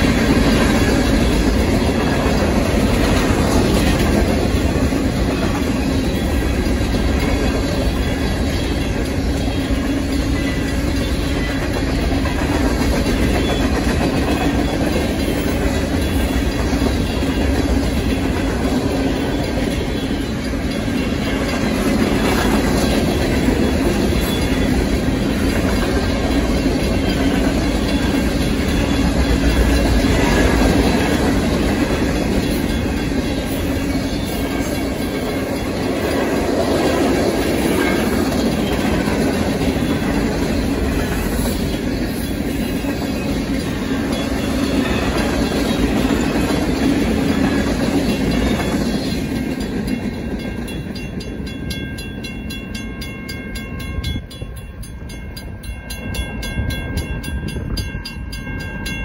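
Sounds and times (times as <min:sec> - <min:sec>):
crossing signal bells ringing: 0:00.0 - 0:59.0
train wheels clacking over rails: 0:00.0 - 0:59.0.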